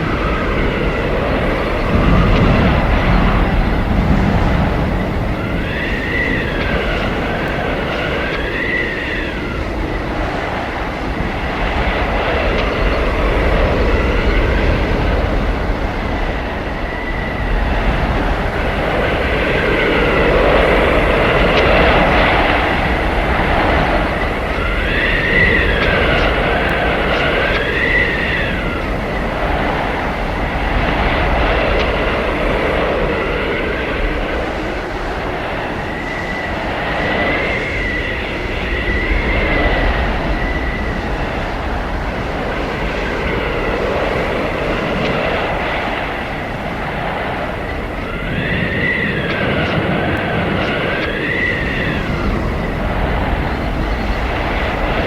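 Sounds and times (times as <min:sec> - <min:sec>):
high whistling tones: 0:00.0 - 0:22.8, 0:33.2 - 0:55.0
howling blizzard wind: 0:00.0 - 0:55.0.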